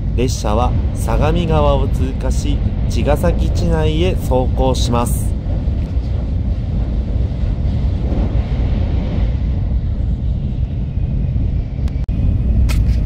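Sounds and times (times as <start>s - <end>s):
train rumble from inside carriage: 0.0s - 13.0s.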